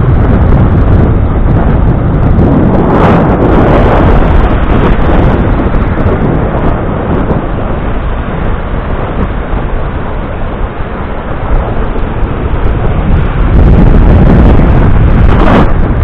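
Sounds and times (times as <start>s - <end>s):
surf breaking on shore: 0.0s - 16.0s
wind buffeting microphone: 0.0s - 16.0s.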